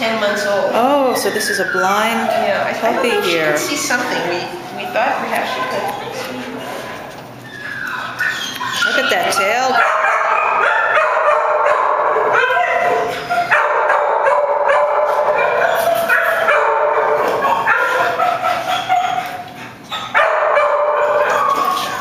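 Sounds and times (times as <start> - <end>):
dogs barking and yelping: 0.2 - 22.0.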